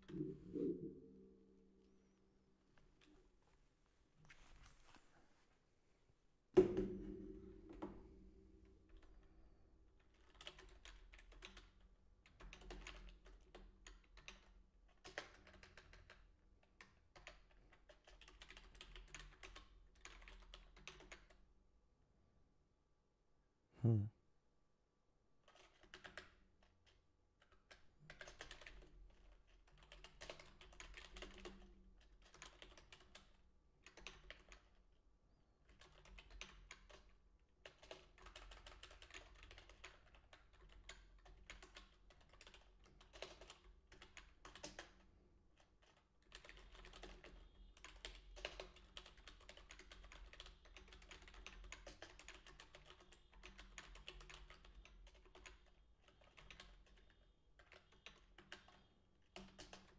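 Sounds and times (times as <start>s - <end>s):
faint typing on keyboard: 7.8s - 21.6s, 25.4s - 59.9s.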